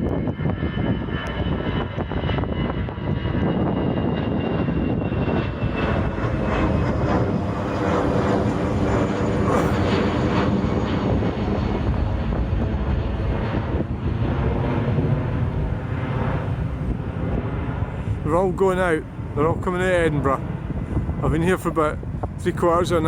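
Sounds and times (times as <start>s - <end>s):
airliner engines passing overhead: 0.0s - 23.0s.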